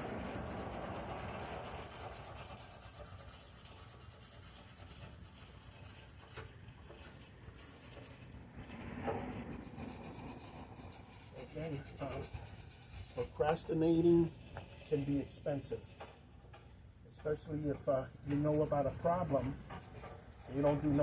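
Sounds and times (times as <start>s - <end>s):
faint rubbing and scraping: 0.0s - 21.0s.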